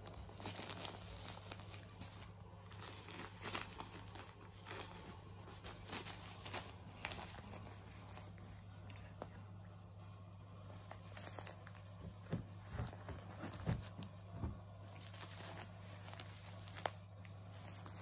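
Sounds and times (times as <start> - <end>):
plastic pouch crinkling: 0.0 - 9.3, 10.7 - 14.1, 14.8 - 18.0
faint low hum: 0.0 - 18.0.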